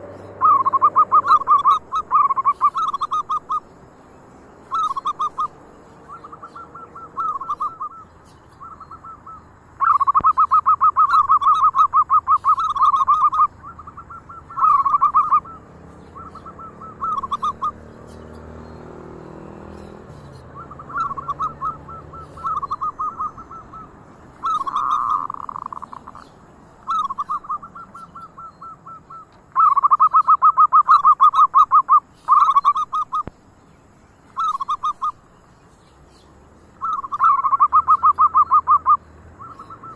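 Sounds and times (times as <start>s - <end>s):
doves cooing: 0.0s - 33.3s, 34.3s - 35.4s, 36.8s - 39.9s.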